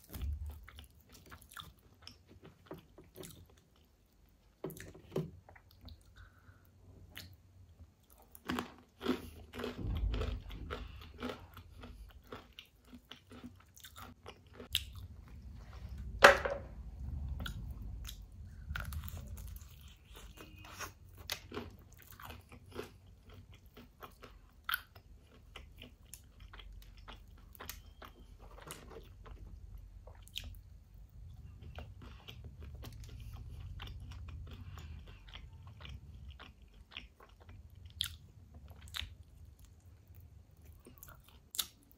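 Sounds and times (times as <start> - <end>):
crunching and chewing fried chicken: 0.0 - 15.6, 17.0 - 41.9.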